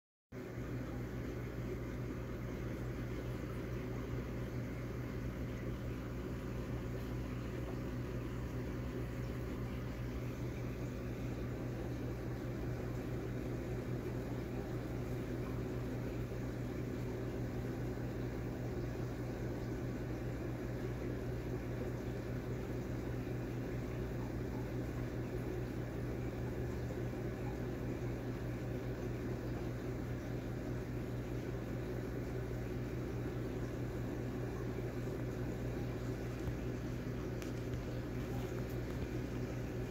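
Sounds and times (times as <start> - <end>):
aquarium pump humming: 0.3 - 39.9.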